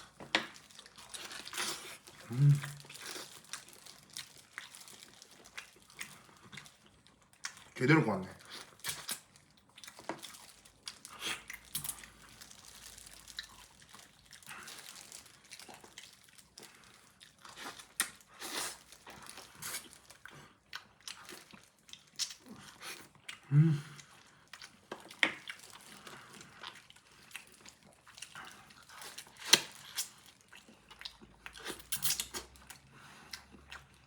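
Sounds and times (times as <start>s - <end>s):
person chewing and smacking: 0.0s - 7.8s, 8.4s - 34.0s.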